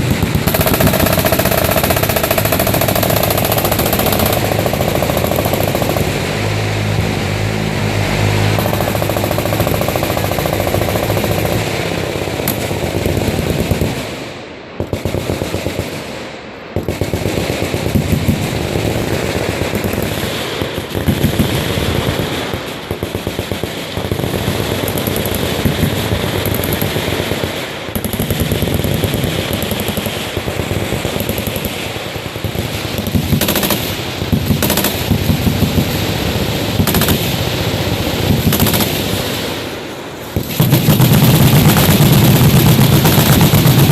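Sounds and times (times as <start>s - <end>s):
machine guns firing: 0.0s - 7.2s, 8.4s - 43.9s.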